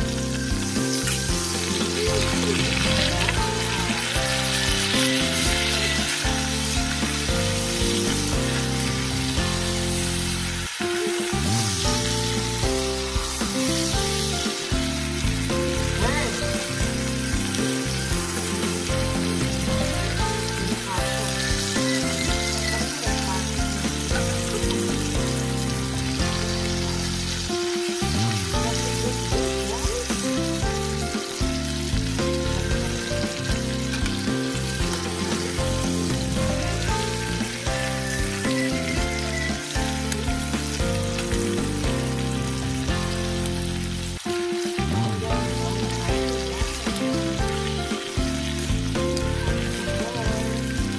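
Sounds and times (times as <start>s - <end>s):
background music: 0.0s - 50.9s
steaks sizzling in a skillet: 0.0s - 50.9s.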